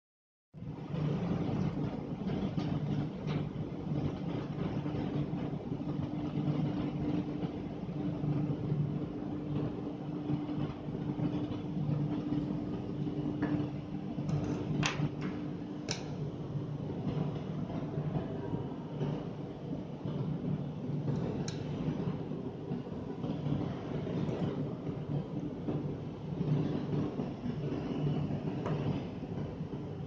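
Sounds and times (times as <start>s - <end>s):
low mechanical hum: 0.6s - 30.0s.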